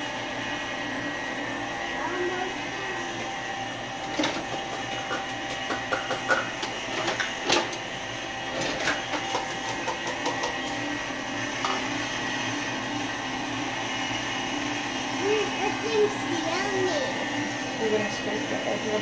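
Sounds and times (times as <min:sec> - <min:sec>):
stand mixer motor humming: 0:00.0 - 0:19.0.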